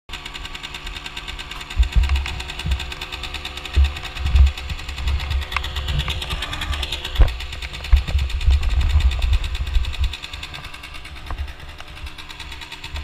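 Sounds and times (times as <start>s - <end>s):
two-stroke engine idling: 0.1s - 13.0s.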